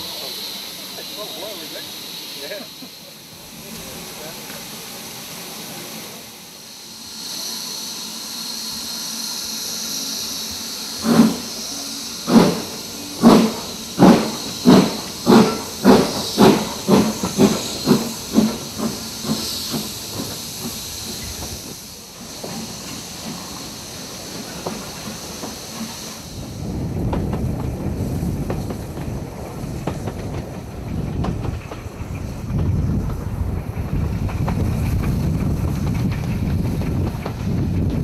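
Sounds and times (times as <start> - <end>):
steam hissing: 0.0 - 38.0
steam locomotive exhaust chuffs: 0.0 - 38.0.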